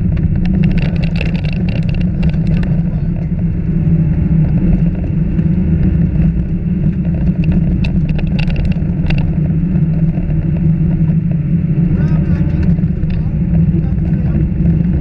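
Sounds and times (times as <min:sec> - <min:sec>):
sharp clicks and ticks: 0:00.0 - 0:03.4, 0:04.4 - 0:11.4, 0:12.3 - 0:15.0
car engine and tyre rumble: 0:00.0 - 0:15.0.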